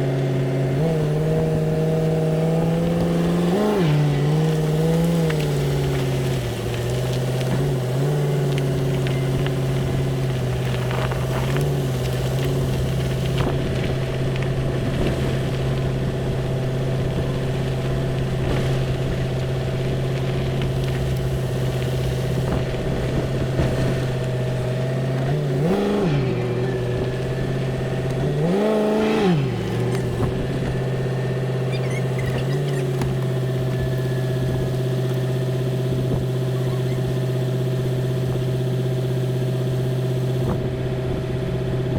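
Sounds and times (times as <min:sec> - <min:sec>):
engine idling and revving: 0:00.0 - 0:41.9.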